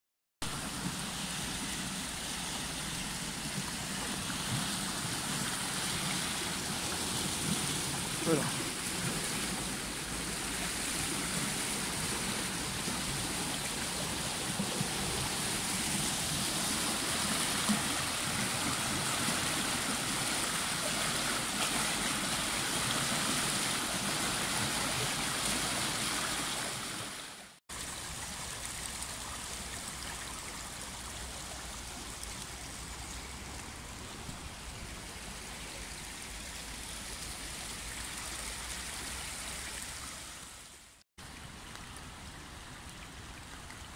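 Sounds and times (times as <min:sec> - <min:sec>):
water rushing over rocks: 0:00.4 - 0:43.9.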